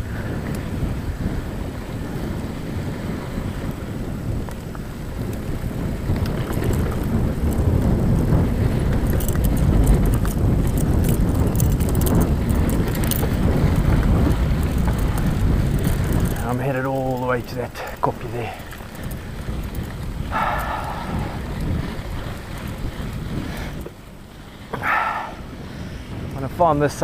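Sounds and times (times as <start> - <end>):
bike clicks and rattles: 0.0 - 27.0
wind rumbling on microphone: 0.0 - 27.0.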